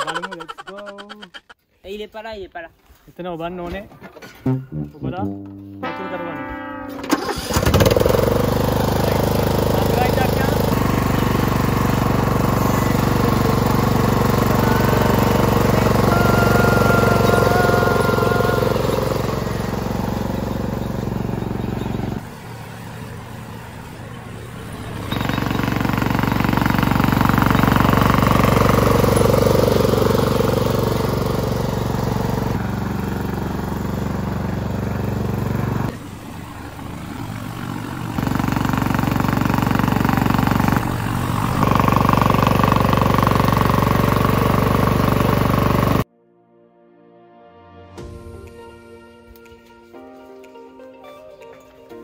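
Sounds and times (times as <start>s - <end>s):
vehicle engine rumbling: 4.1s - 46.0s.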